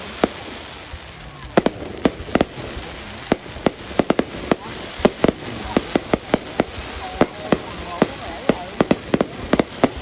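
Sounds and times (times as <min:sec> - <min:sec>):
fireworks sharp bangs: 0:00.0 - 0:10.0
steady background hiss: 0:00.0 - 0:10.0.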